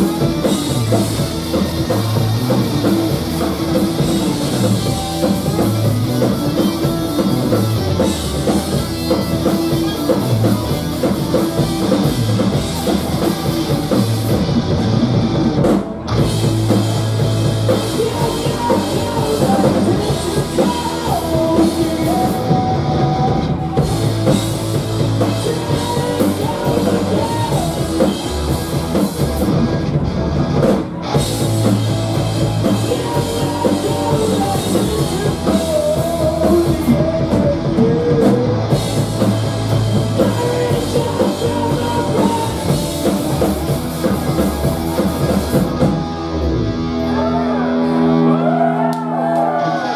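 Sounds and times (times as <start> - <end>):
drum kit: 0.0 - 47.5
electric bass: 0.0 - 49.9
electric guitar: 0.0 - 49.9.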